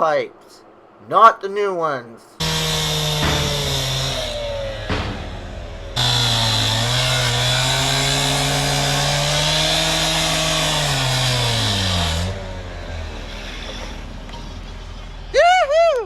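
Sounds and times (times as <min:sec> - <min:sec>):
cut-off saw engine revving: 0:02.4 - 0:15.3.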